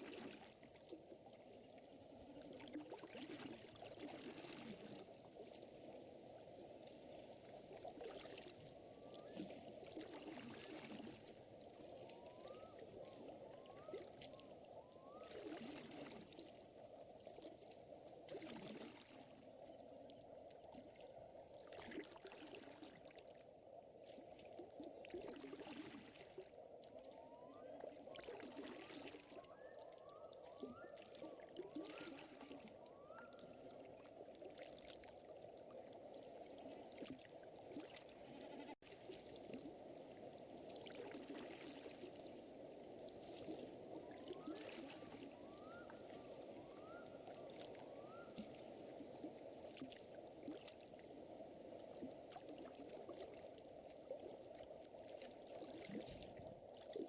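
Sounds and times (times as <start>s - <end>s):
water trickling and lapping: 0.0s - 57.0s.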